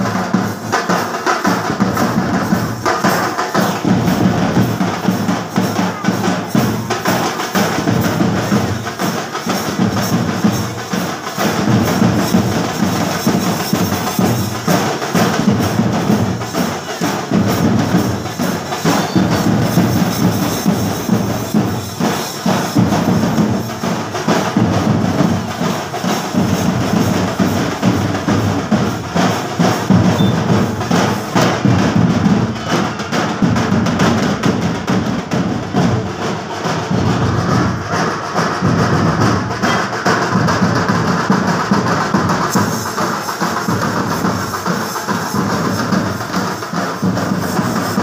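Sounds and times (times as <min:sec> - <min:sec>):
drum troupe playing fast drumming: 0:00.0 - 0:48.0.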